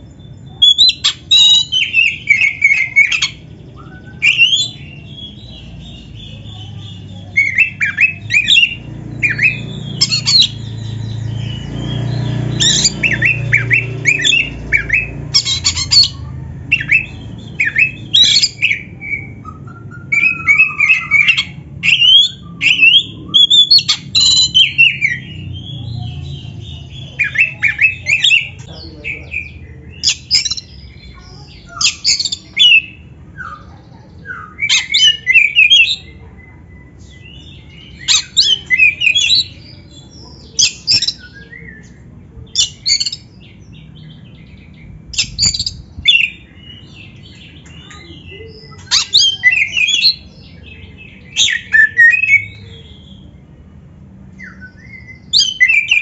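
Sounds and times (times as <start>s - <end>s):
bird singing whistles and squawks: 0.0s - 28.6s, 29.2s - 53.4s, 54.3s - 56.0s.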